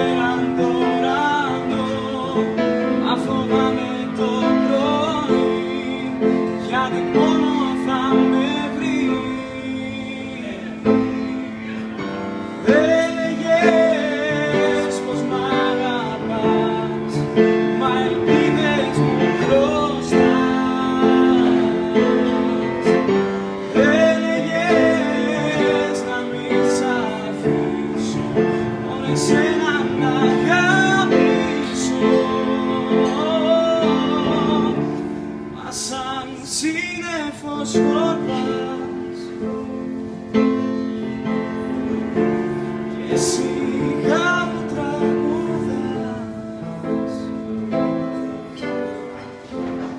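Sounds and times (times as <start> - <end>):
grand piano chords: 0.0 - 49.9
man singing: 0.0 - 49.9.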